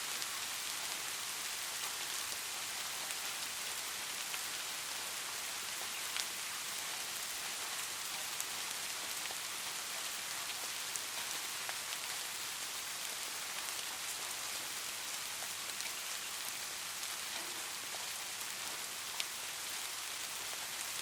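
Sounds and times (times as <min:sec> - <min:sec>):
light rain hissing: 0:00.0 - 0:21.0
raindrops ticking on a surface: 0:00.1 - 0:21.0.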